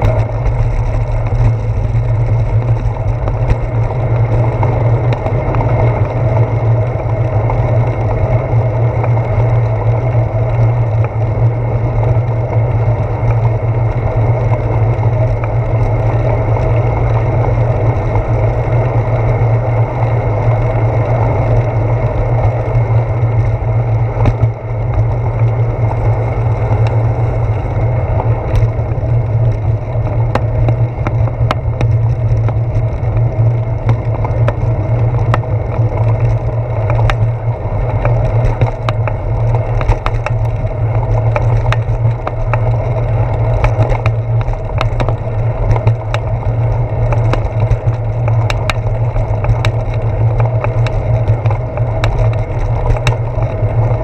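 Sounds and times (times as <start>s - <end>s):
bicycle clicks and knocks over bumps: 0.0s - 54.0s
wind and road rumble: 0.0s - 54.0s.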